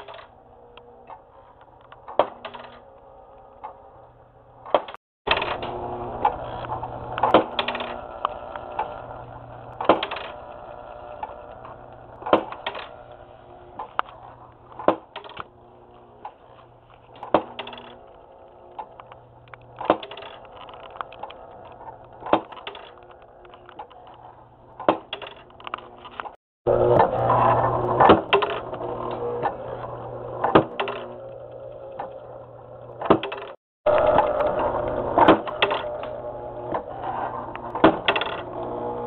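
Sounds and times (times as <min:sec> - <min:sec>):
steady low hum: 0:00.0 - 0:04.7, 0:05.3 - 0:24.9, 0:26.7 - 0:33.0, 0:33.9 - 0:39.0.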